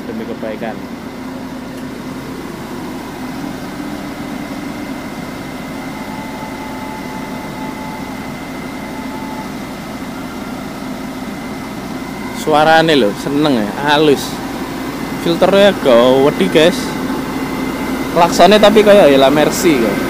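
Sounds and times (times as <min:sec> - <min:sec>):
faint high whine: 0:00.0 - 0:20.0
heavy diesel engine idling: 0:00.0 - 0:20.0.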